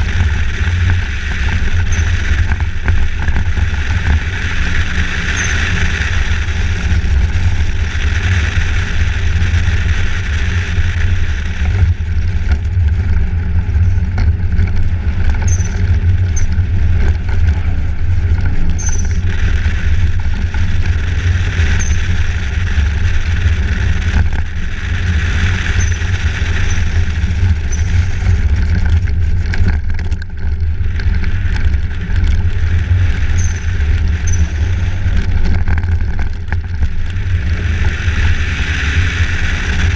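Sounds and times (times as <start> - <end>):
vehicle driving rumble: 0.0 - 39.9.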